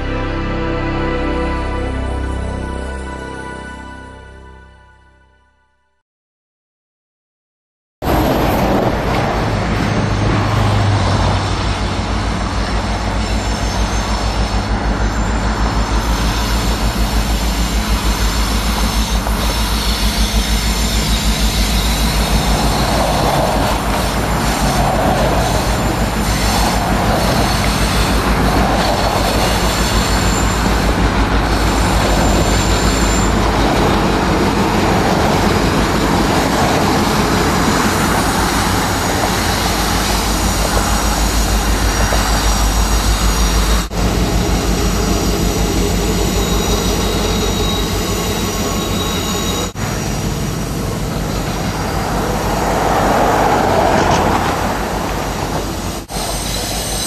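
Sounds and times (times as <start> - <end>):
diesel locomotive engine pulsing: 8.0 - 57.0
wheel flanges squealing: 8.2 - 57.0.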